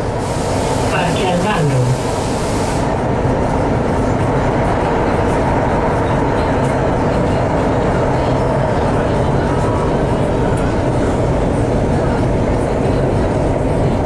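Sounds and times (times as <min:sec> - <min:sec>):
train rumbling through tunnel: 0:00.0 - 0:14.0.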